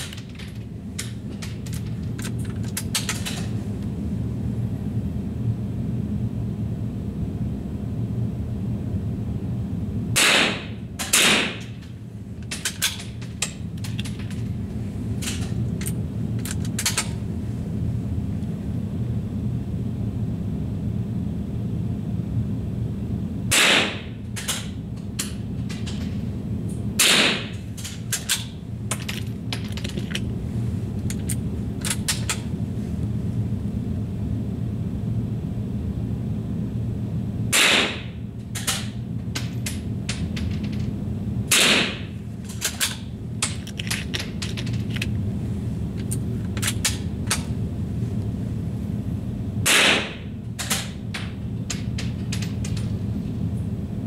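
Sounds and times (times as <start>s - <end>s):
low hum: 0.0s - 54.0s.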